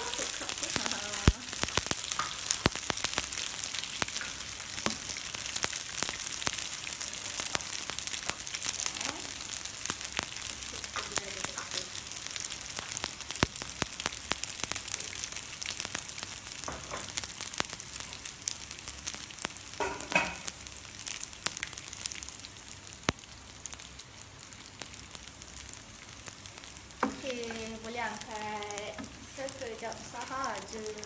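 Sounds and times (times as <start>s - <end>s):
fish sizzling in oil: 0.0s - 31.0s
oil crackling and popping: 0.0s - 31.0s.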